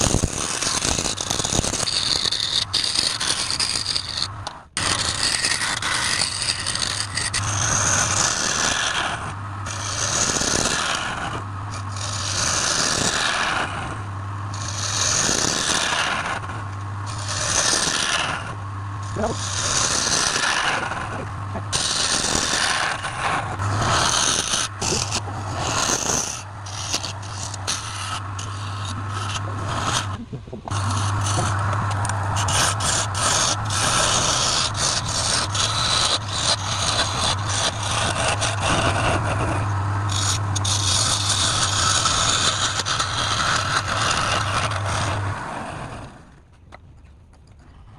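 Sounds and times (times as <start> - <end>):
lathe motor hum: 0.0 - 46.3
tool scraping spinning wood: 0.0 - 47.9.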